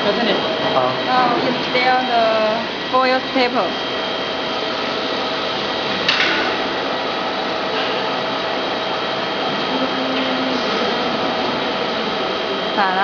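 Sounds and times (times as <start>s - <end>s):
factory machines whirring: 0.0s - 13.0s.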